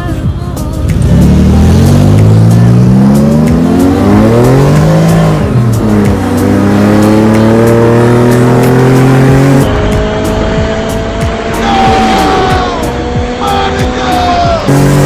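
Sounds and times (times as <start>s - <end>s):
car engine accelerating hard: 0.9s - 15.0s.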